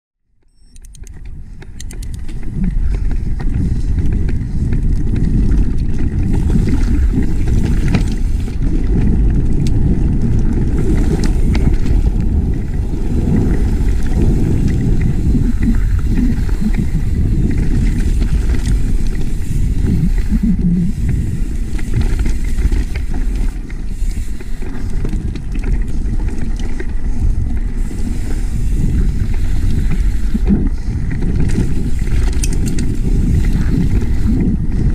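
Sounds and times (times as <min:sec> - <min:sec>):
bike clicks and knocks: 0:00.4 - 0:34.9
mountain bike rattle on dirt trail: 0:01.0 - 0:34.9
wind buffeting microphone: 0:01.0 - 0:34.9.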